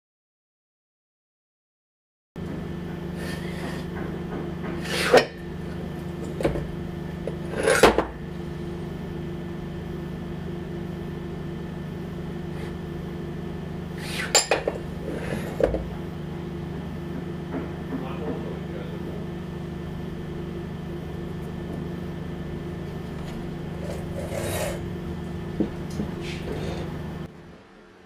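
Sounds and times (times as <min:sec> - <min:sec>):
steady electrical hum: 0:02.4 - 0:28.0.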